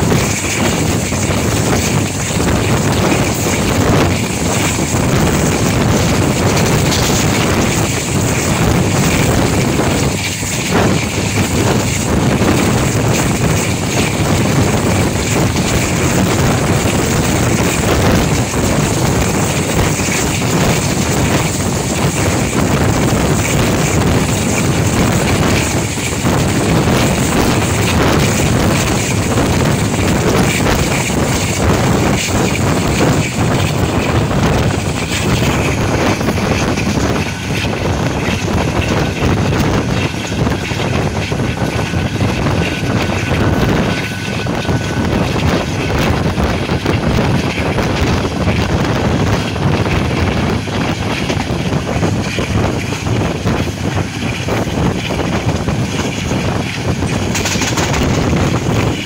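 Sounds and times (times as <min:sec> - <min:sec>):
diesel locomotive engine running: 0:00.0 - 0:59.0
wind buffeting microphone: 0:00.0 - 0:59.0.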